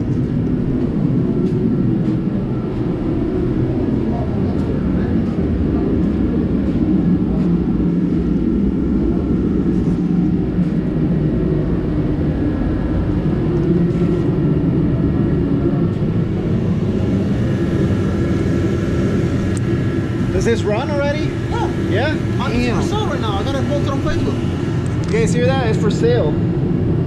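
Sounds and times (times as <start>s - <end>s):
heater roaring: 0.0s - 27.0s.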